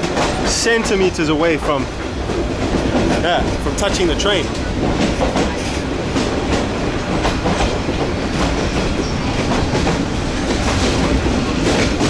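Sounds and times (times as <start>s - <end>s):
train rumbling on track: 0.0s - 12.0s
wheels clattering: 0.0s - 12.0s.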